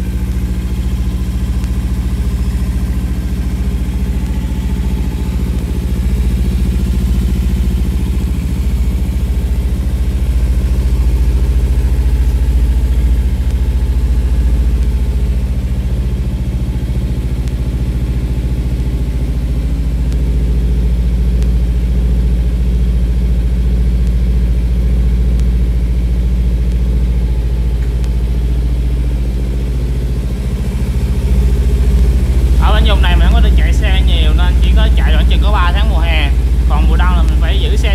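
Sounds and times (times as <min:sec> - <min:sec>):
motorcycle engine idling: 0:00.0 - 0:37.9.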